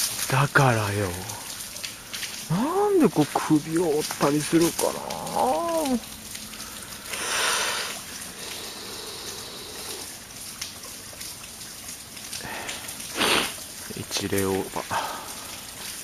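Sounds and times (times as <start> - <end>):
water rushing: 0.0 - 16.0
water trickling: 0.0 - 16.0.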